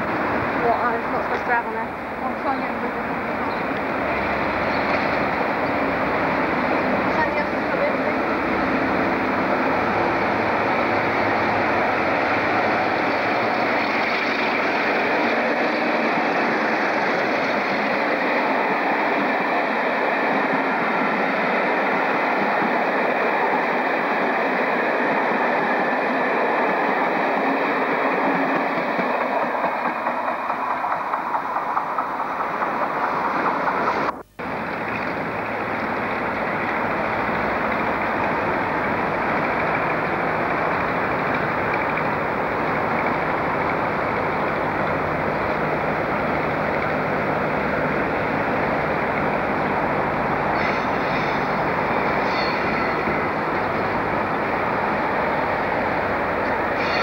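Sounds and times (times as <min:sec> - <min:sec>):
locomotive engine running: 0:00.0 - 0:26.1, 0:26.9 - 0:57.0
train coaches rumbling past: 0:00.0 - 0:57.0.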